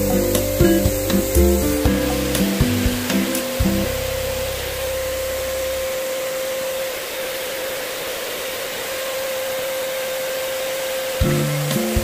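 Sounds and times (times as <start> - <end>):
paint sprayer hissing: 0.0 - 12.0
turbine motor whine: 0.0 - 12.0.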